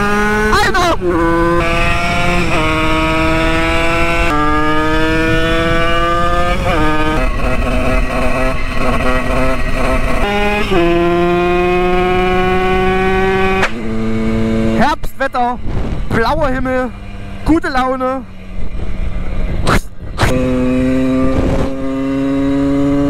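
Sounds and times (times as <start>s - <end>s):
moped engine revving: 0.0s - 23.0s.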